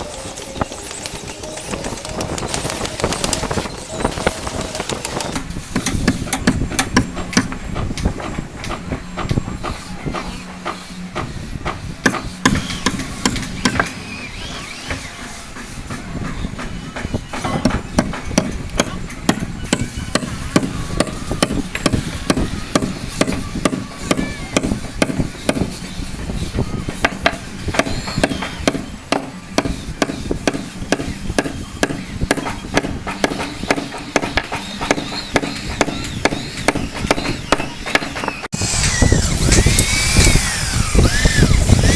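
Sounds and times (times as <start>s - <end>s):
hammer blows on timber: 0.9s - 14.0s, 15.9s - 41.9s.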